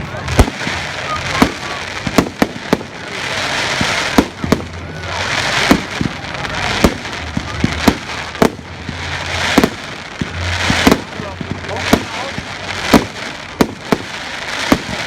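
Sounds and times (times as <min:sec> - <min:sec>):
firework bangs: 0:00.0 - 0:15.0
firework crackle and hiss: 0:00.0 - 0:15.0.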